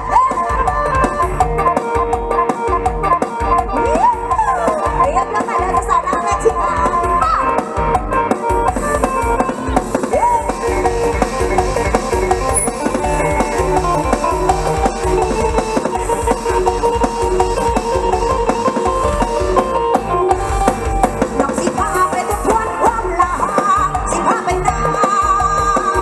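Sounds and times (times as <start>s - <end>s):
drum kit fast beat: 0.0s - 26.0s
sustained melody lines: 0.0s - 26.0s.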